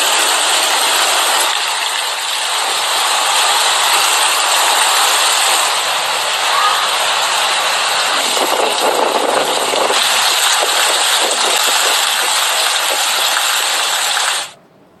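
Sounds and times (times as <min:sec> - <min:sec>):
heavy rain pouring: 0:00.0 - 0:14.6.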